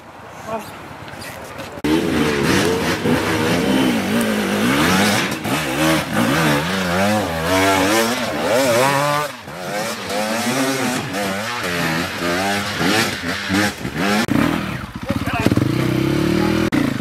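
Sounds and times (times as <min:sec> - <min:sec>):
dirt bike engine revving: 0:01.8 - 0:17.0.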